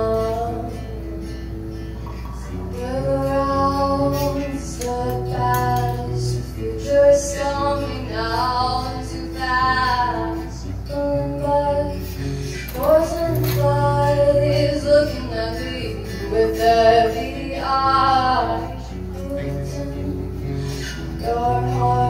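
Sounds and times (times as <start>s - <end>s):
girl singing: 0.0s - 1.3s, 2.5s - 22.0s
acoustic guitar: 0.0s - 22.0s.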